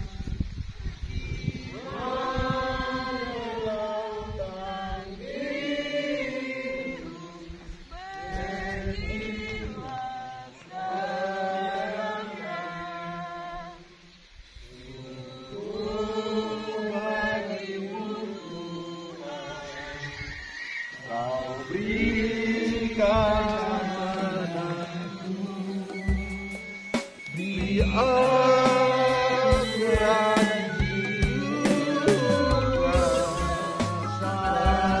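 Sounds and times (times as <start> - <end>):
group singing slow song: 0.0 - 35.0.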